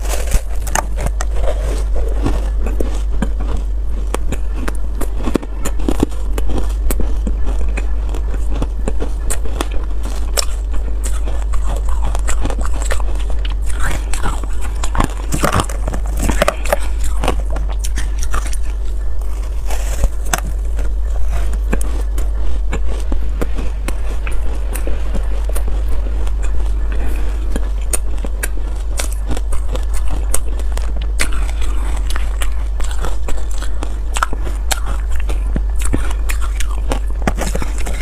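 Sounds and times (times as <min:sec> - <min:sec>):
ice crunching in the mouth: 0:00.0 - 0:38.0
steady low hum: 0:00.0 - 0:38.0.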